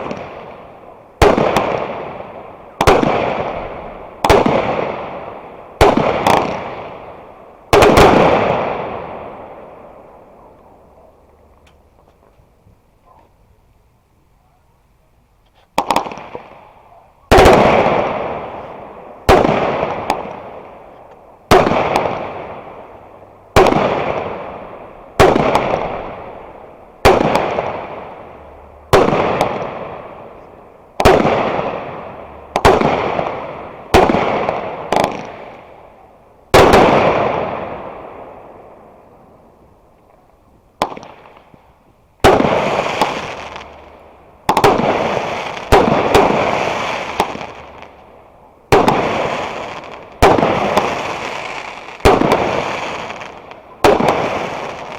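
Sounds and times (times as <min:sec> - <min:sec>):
fireworks bursting: 0:00.0 - 0:13.5, 0:15.4 - 0:54.9.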